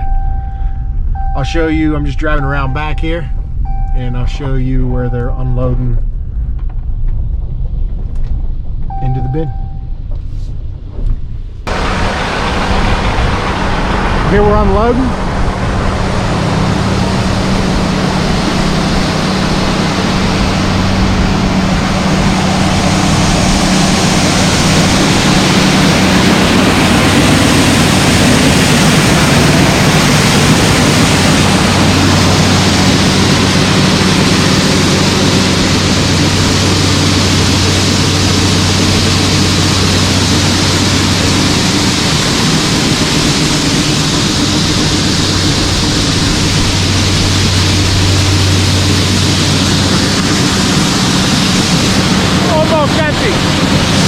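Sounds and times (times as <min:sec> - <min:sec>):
low machinery hum: 0:00.0 - 0:54.0.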